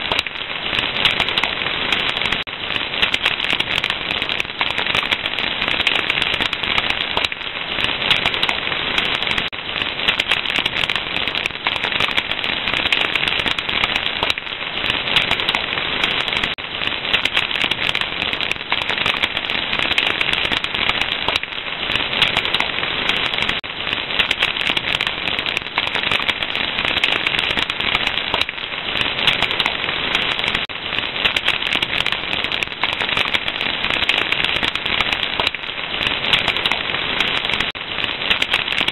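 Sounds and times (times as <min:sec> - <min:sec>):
fire crackling: 0:00.0 - 0:38.9.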